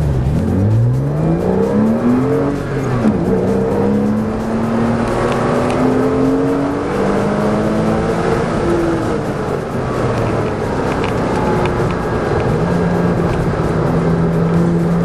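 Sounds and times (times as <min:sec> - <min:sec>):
car engine accelerating: 0:00.0 - 0:15.0
road and tyre noise: 0:00.0 - 0:15.0.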